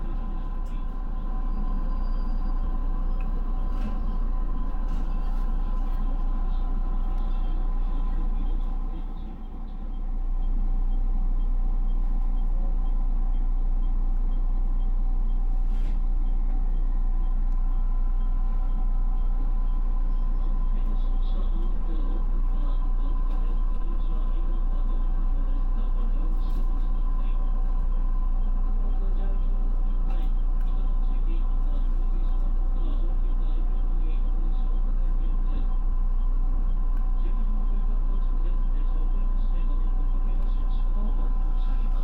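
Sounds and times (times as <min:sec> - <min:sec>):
train rumbling and humming: 0:00.0 - 0:42.0.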